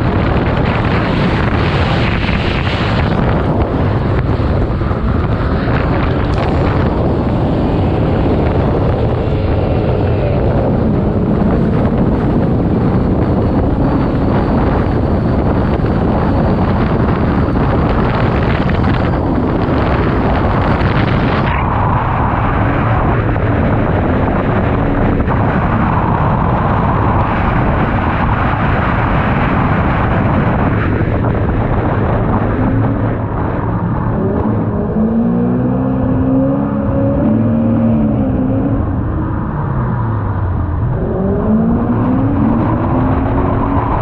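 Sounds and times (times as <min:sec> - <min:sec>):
car engine running loud: 0:00.0 - 0:44.0
heavy rushing noise: 0:00.0 - 0:44.0.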